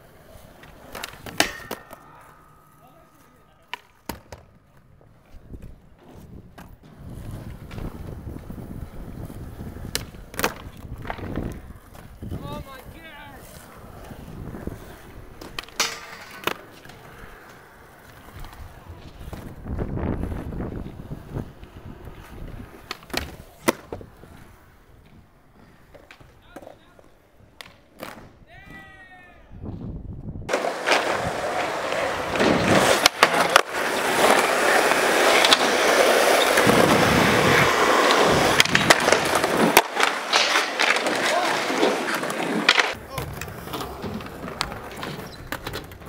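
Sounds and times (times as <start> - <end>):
skateboard clacks: 0.0 - 28.8, 30.5 - 46.0
skateboard wheels rolling on concrete: 0.0 - 46.0.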